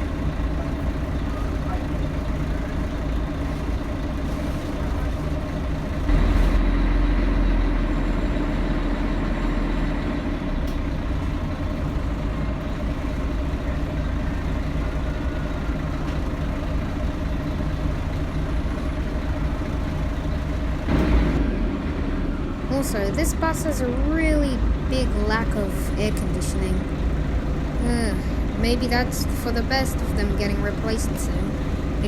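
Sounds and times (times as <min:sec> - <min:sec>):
bus diesel engine drone: 0:00.0 - 0:32.0.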